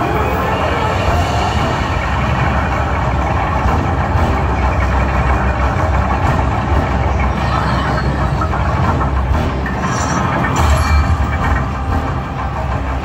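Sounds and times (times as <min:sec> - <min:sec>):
slot machine engine-like drone: 0:00.0 - 0:13.0.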